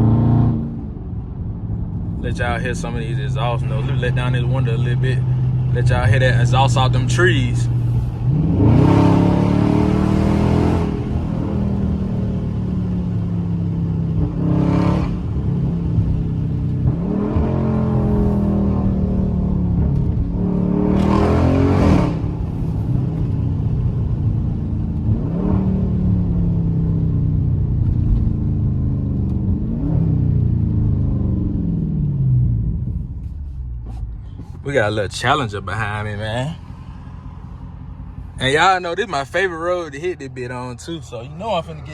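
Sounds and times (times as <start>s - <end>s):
car exhaust accelerating: 0.0s - 41.9s.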